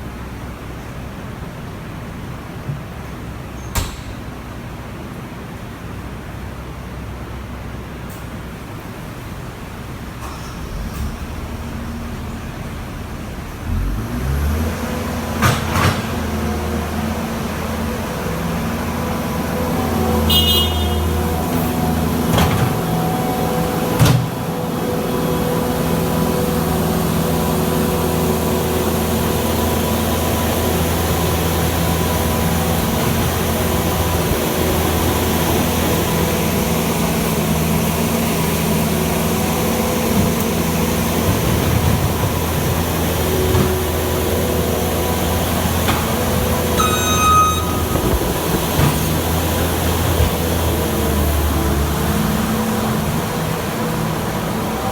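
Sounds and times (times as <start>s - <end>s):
diesel engine running: 8.4s - 54.9s.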